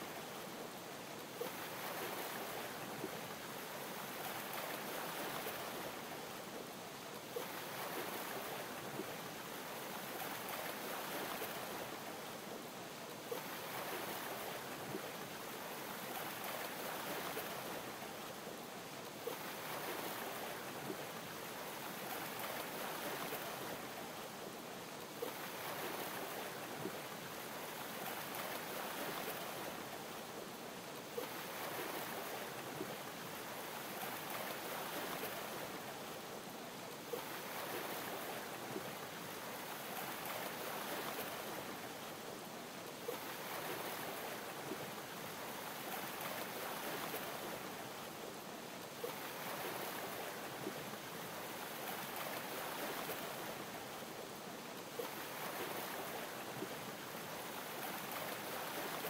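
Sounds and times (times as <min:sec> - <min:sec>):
waves lapping against hull: 0:00.0 - 0:12.6, 0:13.2 - 0:59.0.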